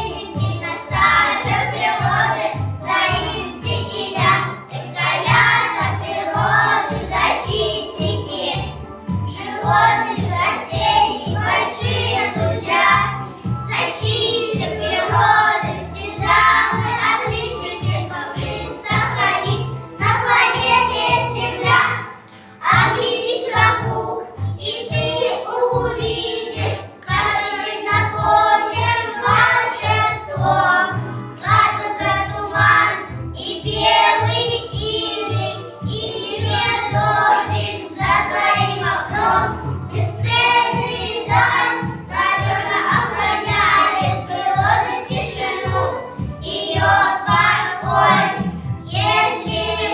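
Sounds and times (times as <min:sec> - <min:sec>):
children singing in unison: 0:00.0 - 0:49.9.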